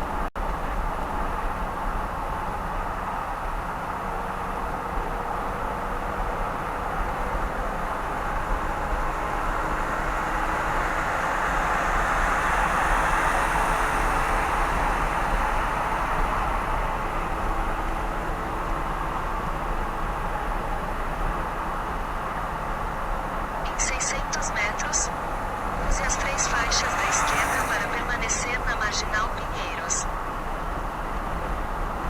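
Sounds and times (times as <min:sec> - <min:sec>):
car driving at speed: 0:03.6 - 0:23.7, 0:24.8 - 0:32.0.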